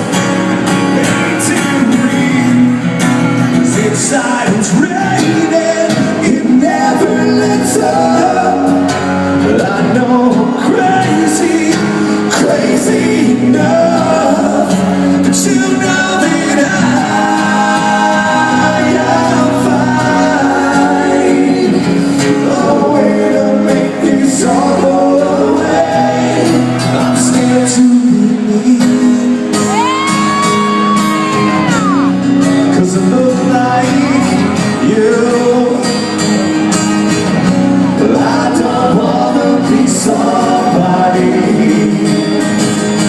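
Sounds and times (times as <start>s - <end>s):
man singing: 0.0s - 36.4s, 37.7s - 43.0s
rock band playing: 0.0s - 43.0s.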